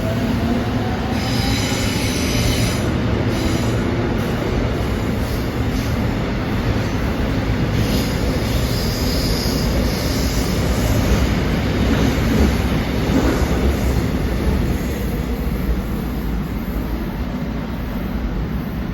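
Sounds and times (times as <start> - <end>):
train wheels rumbling on track: 0.0 - 18.9.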